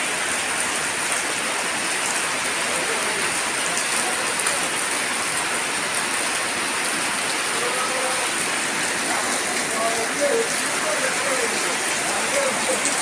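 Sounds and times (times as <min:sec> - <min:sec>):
rain on a metal roof: 0:00.0 - 0:13.0
rain on wet concrete: 0:00.0 - 0:13.0.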